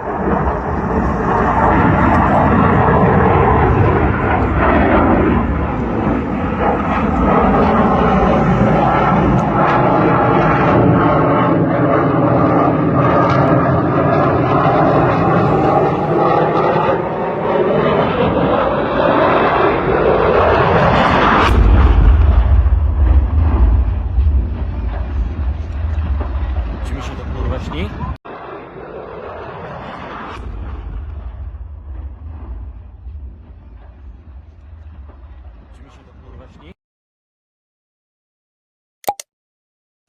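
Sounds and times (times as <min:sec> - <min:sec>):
jet engine roaring: 0:00.0 - 0:36.8.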